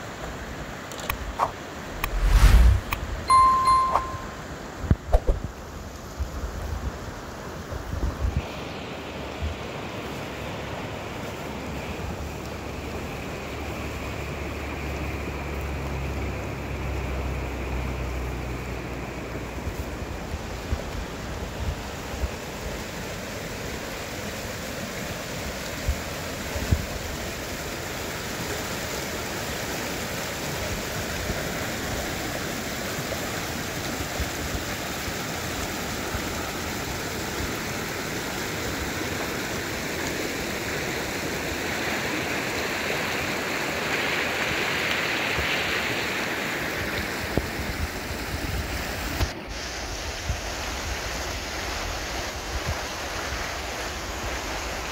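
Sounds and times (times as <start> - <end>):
stream rushing over stones: 0.0 - 4.4, 5.1 - 54.9.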